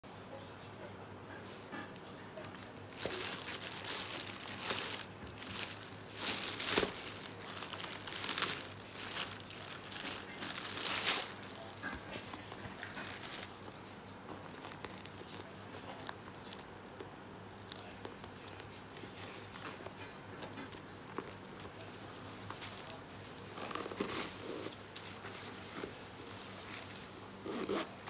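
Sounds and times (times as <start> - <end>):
plastic bag crinkling: 2.0 - 24.8.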